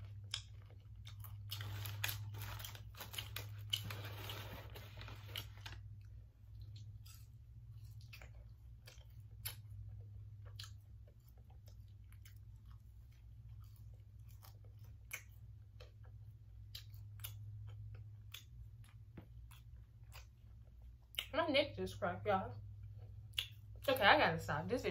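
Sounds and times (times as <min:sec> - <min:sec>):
chewing french fries: 0:00.0 - 0:21.5, 0:22.6 - 0:24.0.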